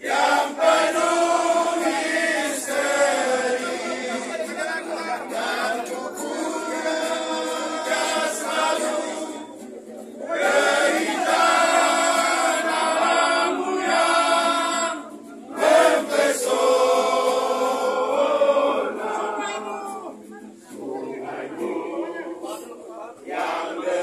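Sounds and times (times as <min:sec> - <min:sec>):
crowd singing in chorus: 0:00.0 - 0:24.0.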